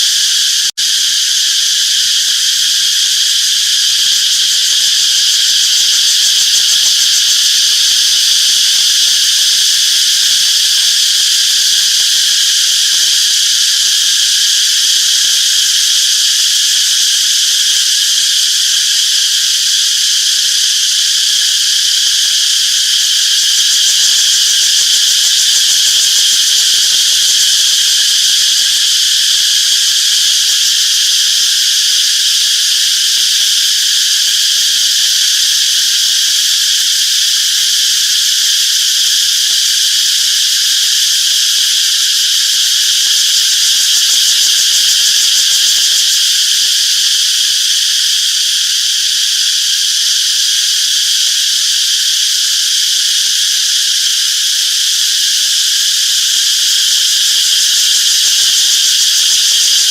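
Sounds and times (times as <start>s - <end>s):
cicadas buzzing: 0.0s - 59.9s.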